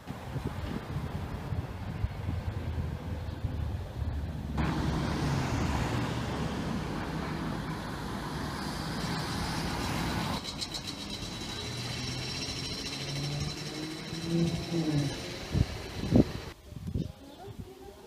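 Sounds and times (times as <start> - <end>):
outdoor ambience: 0.0 - 18.0
vehicle passing: 1.8 - 16.6.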